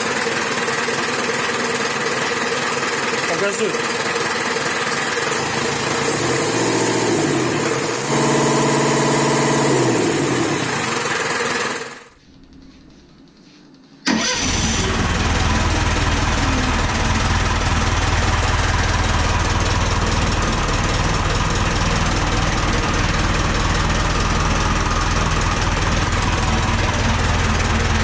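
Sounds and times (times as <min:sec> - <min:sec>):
diesel engine running: 0:00.0 - 0:12.6, 0:14.1 - 0:28.0.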